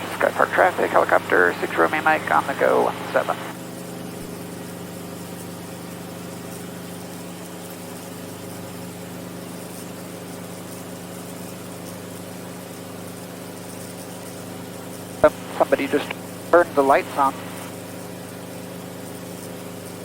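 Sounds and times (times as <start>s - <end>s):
helicopter engine and rotors droning: 0.0s - 20.0s.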